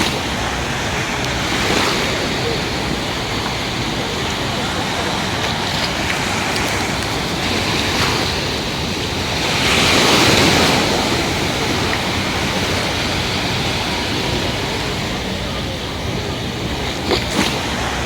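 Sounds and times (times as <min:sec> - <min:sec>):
sea waves washing onto beach: 0:00.0 - 0:18.0
wind buffeting microphone: 0:00.0 - 0:18.0.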